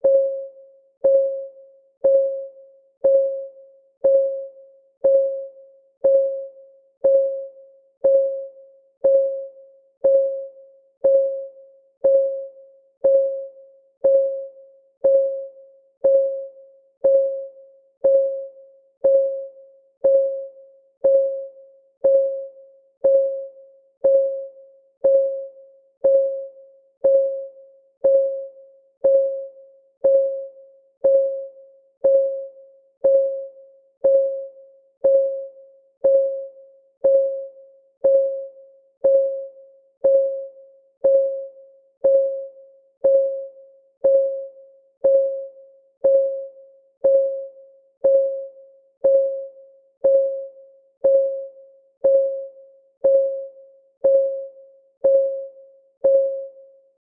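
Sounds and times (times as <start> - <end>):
timer ticking: 1.0 - 56.6.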